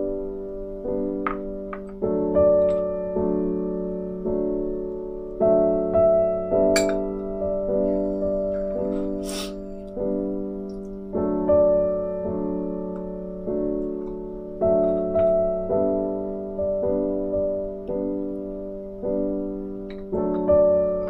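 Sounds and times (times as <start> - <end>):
gentle piano chords: 0.0 - 21.0.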